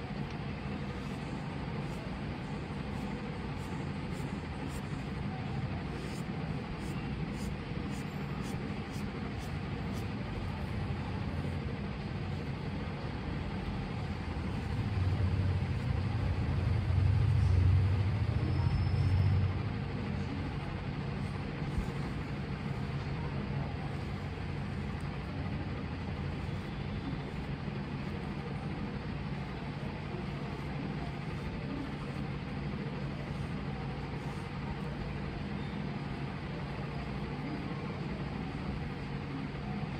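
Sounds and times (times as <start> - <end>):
low background rumble: 0.0 - 39.9.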